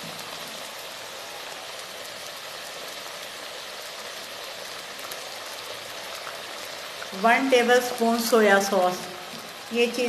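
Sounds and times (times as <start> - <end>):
chicken and vegetables sizzling in oil: 0.0 - 10.0.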